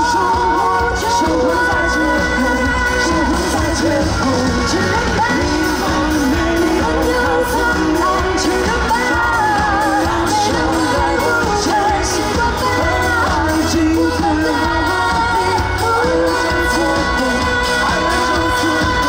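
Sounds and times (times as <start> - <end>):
live pop band playing: 0.0 - 19.0
person singing: 0.0 - 19.0.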